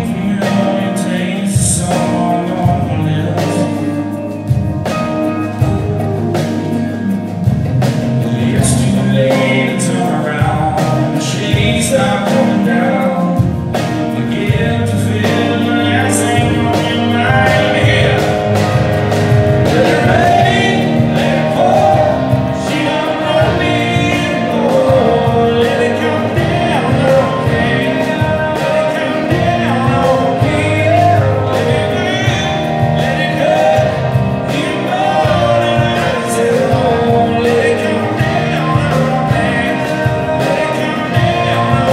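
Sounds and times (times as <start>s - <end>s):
man singing: 0.0s - 6.1s, 8.0s - 41.9s
electric keyboard: 0.0s - 41.9s
hand percussion: 0.0s - 41.9s
strummed acoustic guitars: 0.0s - 41.9s.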